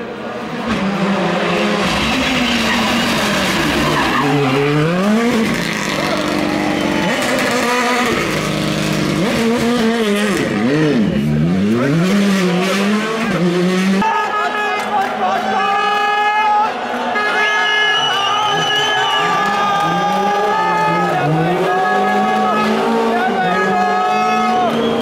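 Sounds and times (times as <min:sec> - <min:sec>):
rally car engine revving: 0:00.0 - 0:14.1, 0:18.4 - 0:25.0.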